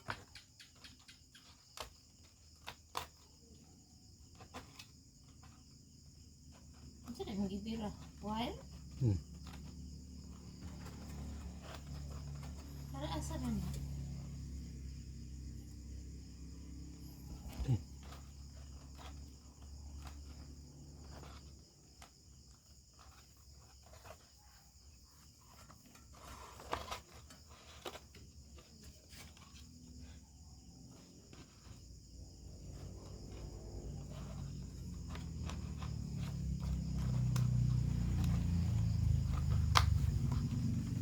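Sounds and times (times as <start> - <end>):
insect chirring: 0.0 - 41.0.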